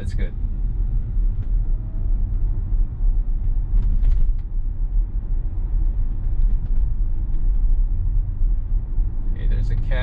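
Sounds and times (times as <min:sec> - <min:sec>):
road and tyre rumble inside car: 0:00.0 - 0:10.0.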